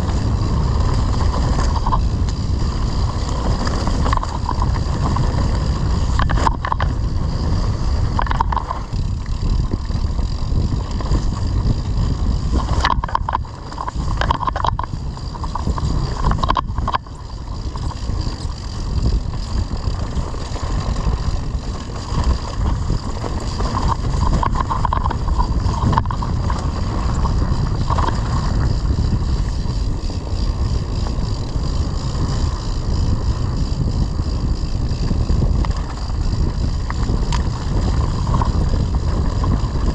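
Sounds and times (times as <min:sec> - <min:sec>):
bike rattling over rough ground: 0:00.0 - 0:39.9
wind buffeting camera: 0:00.0 - 0:39.9.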